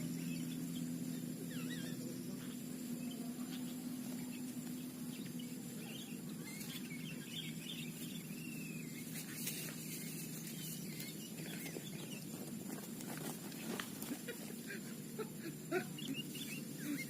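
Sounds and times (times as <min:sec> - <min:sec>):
bird chirping: 0:00.0 - 0:17.0
steady low hum: 0:00.0 - 0:17.0.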